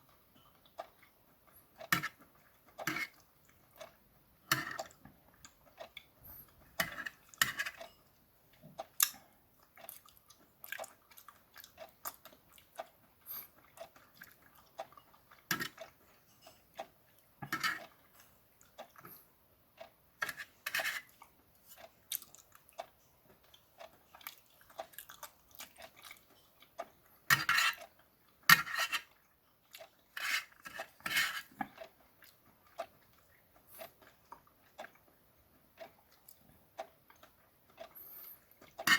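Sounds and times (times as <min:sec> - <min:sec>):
close-up chewing: 0:00.0 - 0:38.9.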